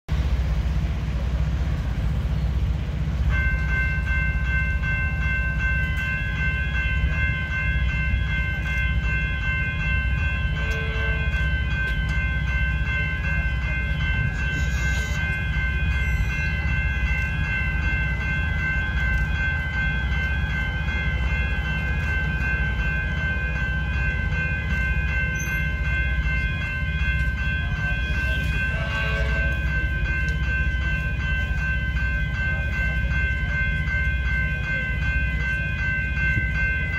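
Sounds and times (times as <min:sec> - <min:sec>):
level crossing warning bells: 0:00.1 - 0:36.9.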